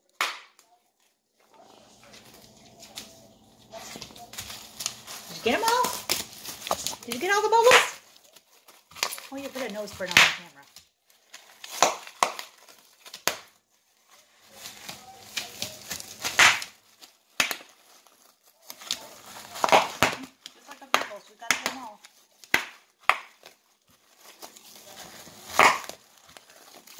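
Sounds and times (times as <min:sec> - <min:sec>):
bubble wrap popping: 0:00.0 - 0:01.0, 0:01.6 - 0:26.9
plastic crinkling: 0:00.0 - 0:26.9.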